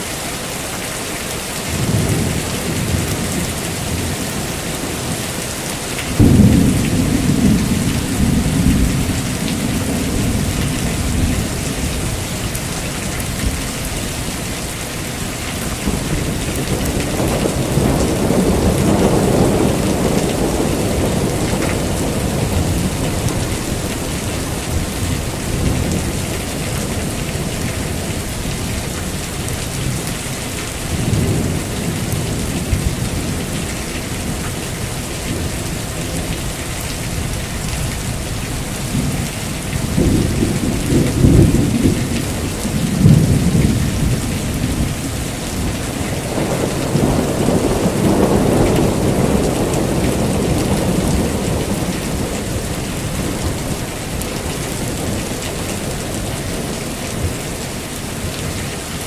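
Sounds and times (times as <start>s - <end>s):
heavy rain: 0.0s - 59.0s
rolling thunder: 6.1s - 14.2s, 15.3s - 36.4s, 37.0s - 57.4s.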